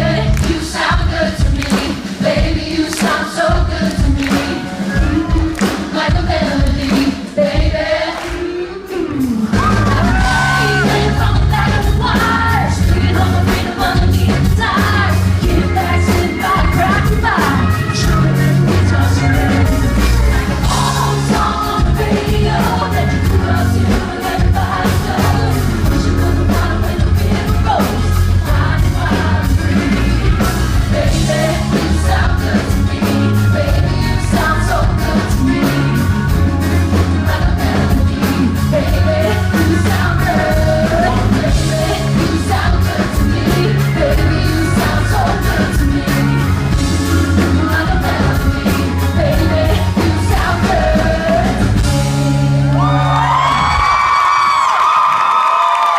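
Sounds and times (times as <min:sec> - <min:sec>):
woman singing: 0:00.0 - 0:19.7, 0:20.6 - 0:36.0, 0:37.1 - 0:51.9
steady drum beat: 0:00.0 - 0:52.3
live band playing pop-country: 0:00.0 - 0:55.9.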